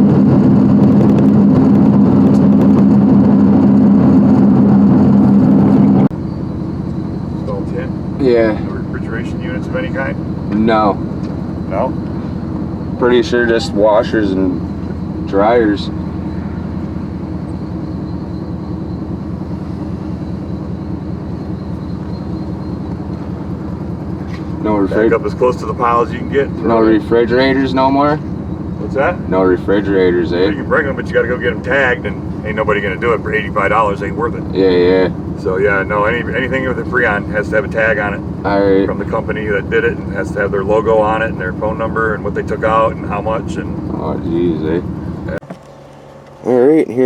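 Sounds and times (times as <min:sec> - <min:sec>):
road noise: 0:00.0 - 0:47.0
truck engine droning: 0:00.0 - 0:47.0.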